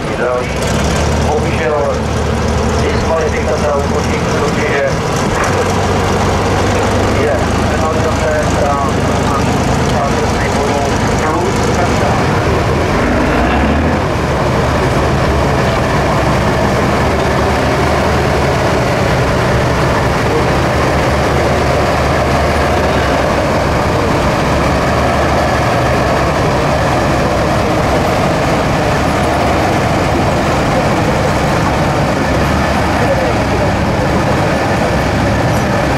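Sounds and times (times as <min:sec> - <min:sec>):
diesel truck engine under load: 0:00.0 - 0:35.9.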